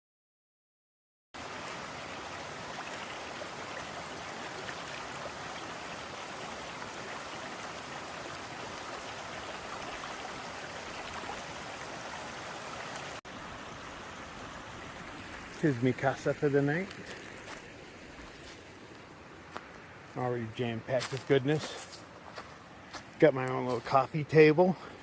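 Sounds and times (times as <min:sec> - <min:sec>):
creek flowing: 0:01.4 - 0:25.0.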